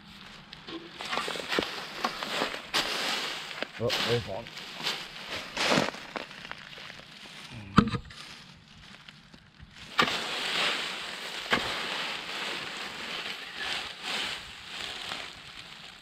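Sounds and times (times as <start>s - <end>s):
dry leaves rustling under a rake: 0.0s - 7.6s, 8.2s - 16.0s.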